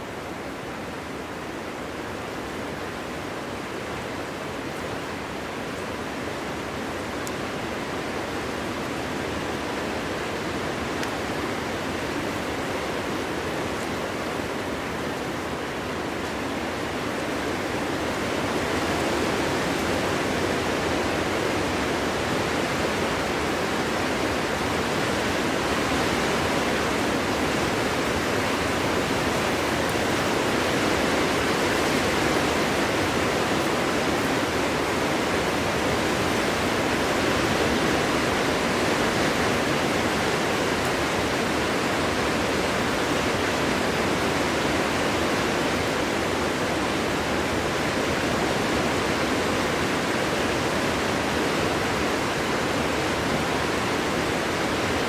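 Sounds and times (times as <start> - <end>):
wind rushing through forest: 0.0 - 55.0.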